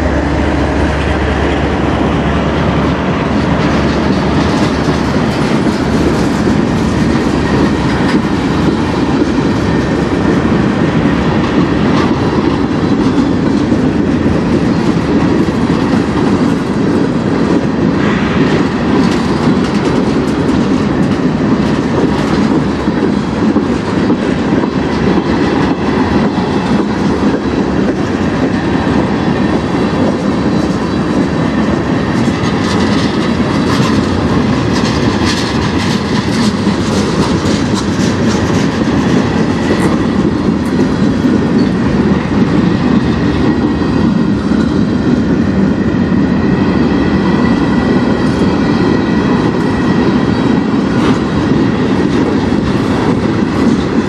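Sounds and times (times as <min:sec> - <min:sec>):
wheels clicking over rail joints: 0:00.0 - 0:46.2
freight train wheels rumbling: 0:00.0 - 0:54.0.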